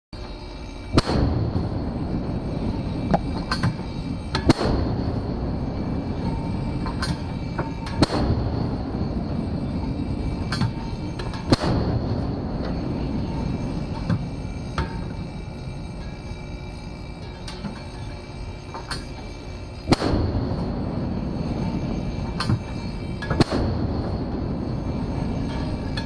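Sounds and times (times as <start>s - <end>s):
steady low rumble: 0.6s - 26.0s.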